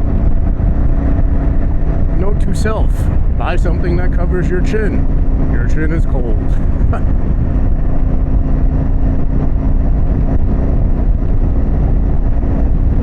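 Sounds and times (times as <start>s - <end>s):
motorcycle engine cruising: 0.0s - 13.0s
road and wind rush: 0.0s - 13.0s.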